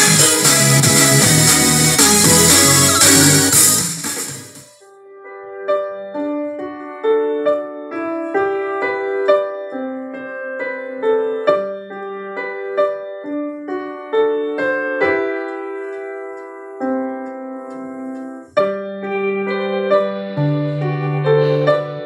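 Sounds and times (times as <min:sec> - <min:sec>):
piano melody through speaker: 0:00.0 - 0:22.0.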